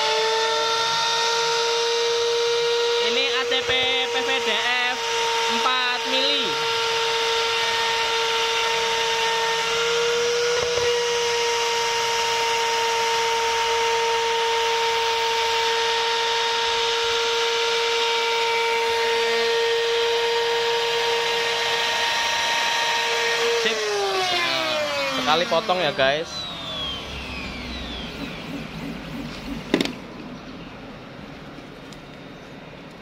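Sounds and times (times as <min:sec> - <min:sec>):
router spindle whining: 0:00.0 - 0:32.3.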